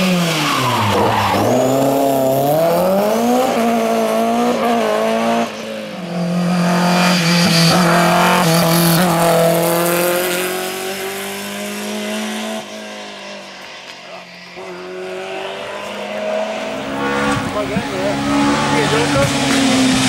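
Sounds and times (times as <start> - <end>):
rally car engine revving: 0.0 - 13.6, 14.3 - 20.0.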